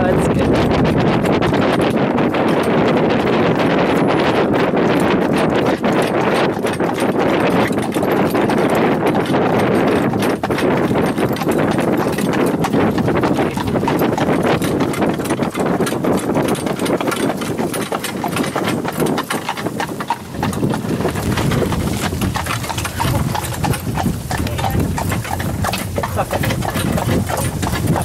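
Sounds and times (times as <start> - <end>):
constant rushing noise: 0.0 - 28.0
horse hooves clip-clopping: 0.0 - 28.0.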